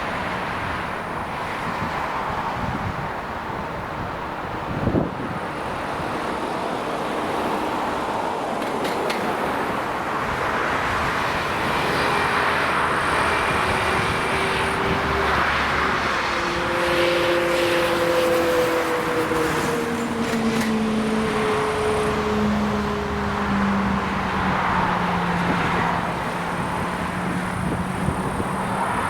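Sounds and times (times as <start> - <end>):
vehicle rumble: 0.0 - 29.0.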